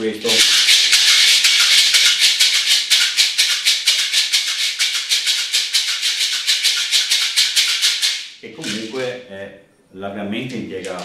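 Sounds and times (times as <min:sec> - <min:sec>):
maracas rattling: 0:00.0 - 0:09.2, 0:10.4 - 0:11.0.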